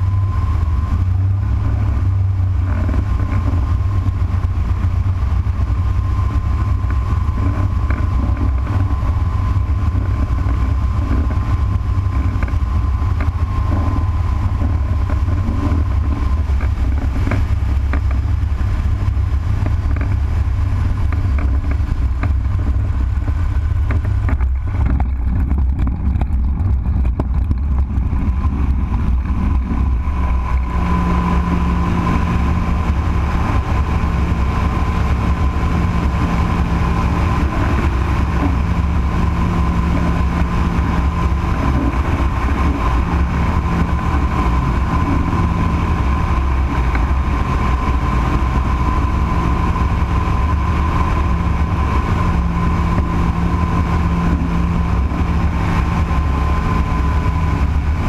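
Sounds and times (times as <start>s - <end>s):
light aircraft engine drone: 0.0s - 58.0s
steady higher whine: 0.0s - 58.0s.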